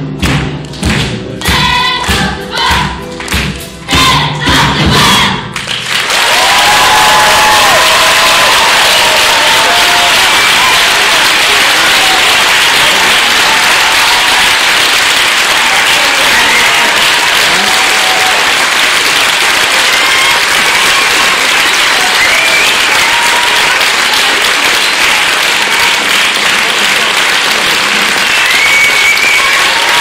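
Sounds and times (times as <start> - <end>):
audience applauding: 5.5 - 30.0.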